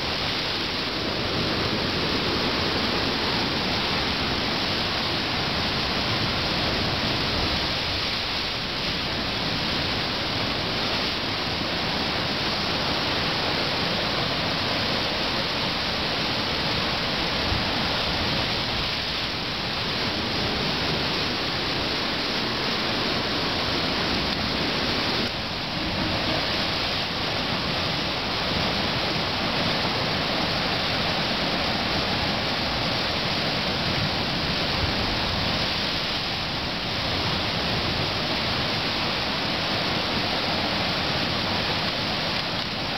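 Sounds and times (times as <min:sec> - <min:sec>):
surf surging against rock walls: 0:00.0 - 0:42.9.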